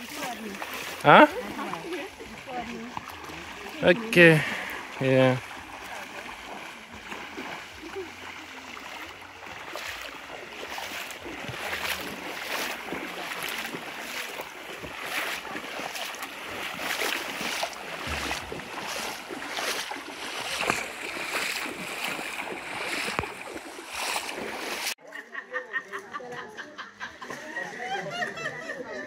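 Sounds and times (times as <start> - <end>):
feet splashing through water: 0.0 - 25.0.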